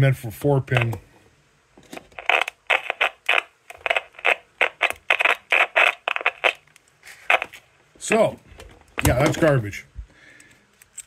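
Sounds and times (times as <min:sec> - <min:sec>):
distorted garbled microphone noise: 0:00.0 - 0:10.1.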